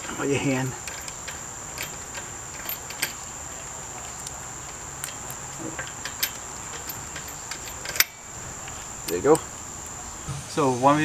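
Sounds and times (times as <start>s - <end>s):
light metallic clicks: 0.0s - 10.0s.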